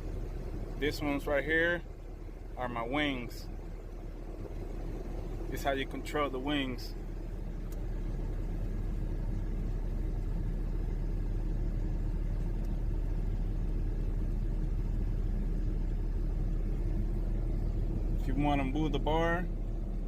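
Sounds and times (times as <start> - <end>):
truck engine low rumble: 0.0 - 20.0.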